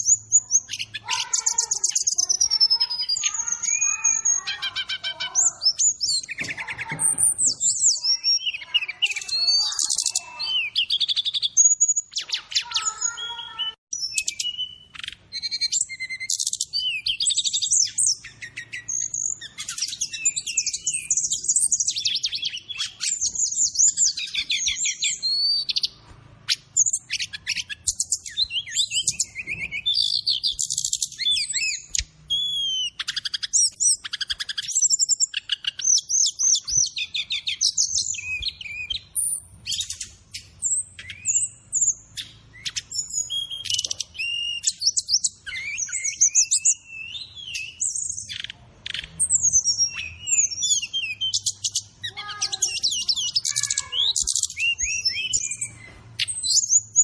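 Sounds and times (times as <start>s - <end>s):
bird song with chirps and trills: 0.0s - 57.0s.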